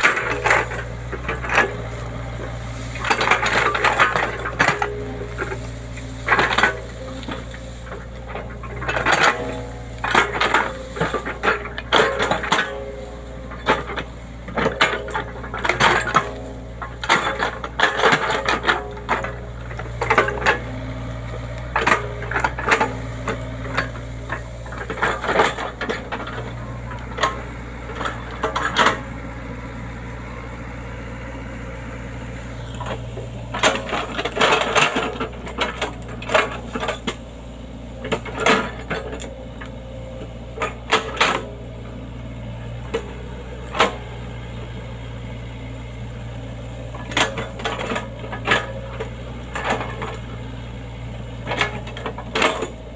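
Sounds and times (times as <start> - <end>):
metallic clanks and rattles: 0.0 - 29.7, 32.2 - 52.9
excavator engine hum: 0.0 - 52.9.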